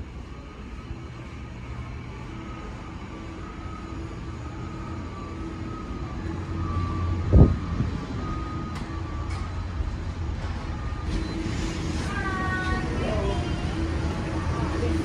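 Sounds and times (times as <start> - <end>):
machinery drone with whining tones: 0.0 - 15.0.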